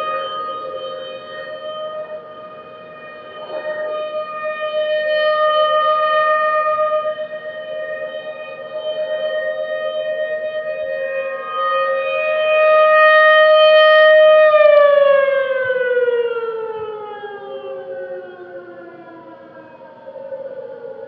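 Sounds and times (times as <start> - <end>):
warning siren two-note chord: 0.0 - 21.0.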